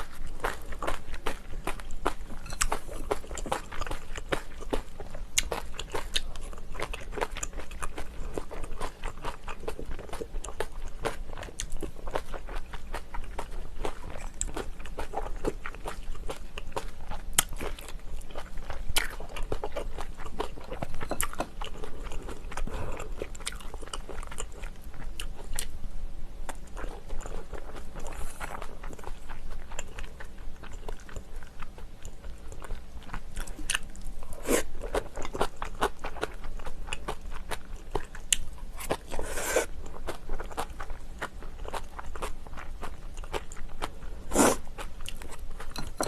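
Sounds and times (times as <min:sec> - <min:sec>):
crunching and chewing: 0:00.0 - 0:25.8, 0:26.5 - 0:46.0.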